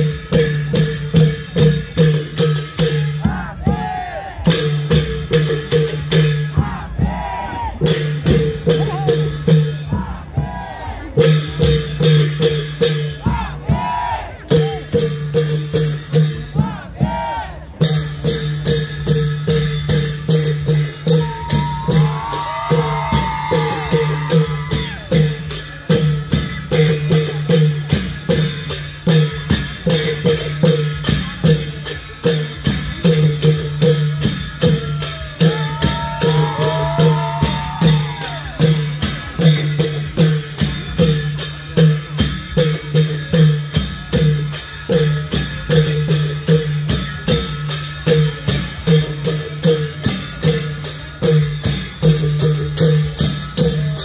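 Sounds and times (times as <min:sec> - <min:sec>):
drum ensemble playing fast beat: 0:00.0 - 0:54.0.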